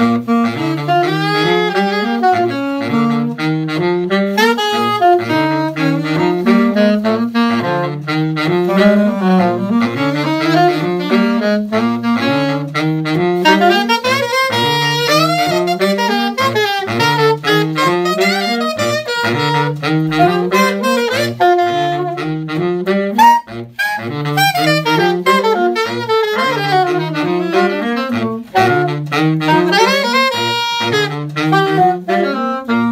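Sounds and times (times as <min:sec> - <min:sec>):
alto saxophone melody: 0:00.0 - 0:32.9
baritone saxophone riff: 0:00.0 - 0:32.9.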